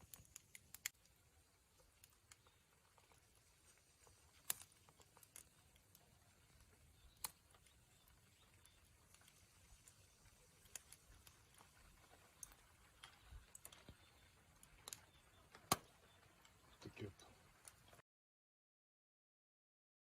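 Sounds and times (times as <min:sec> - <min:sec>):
oysters crackling and popping on fire: 0:00.0 - 0:18.0.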